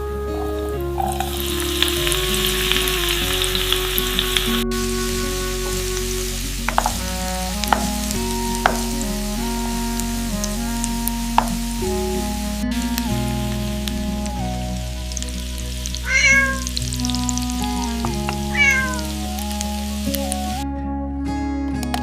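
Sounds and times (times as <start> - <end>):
music with bass and plucked notes: 0.0 - 22.0
sizzling hiss: 0.3 - 20.6.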